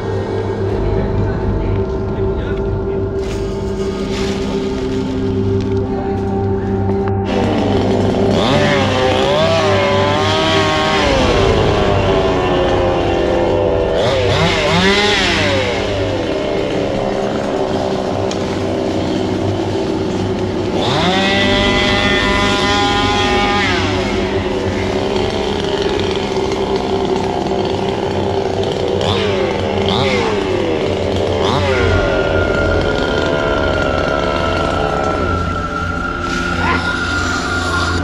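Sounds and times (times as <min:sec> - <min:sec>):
small engine revving: 0:00.0 - 0:38.0.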